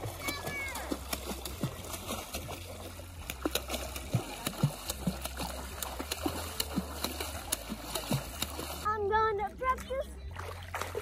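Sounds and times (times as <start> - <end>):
feet splashing in shallow water: 0.0 - 11.0.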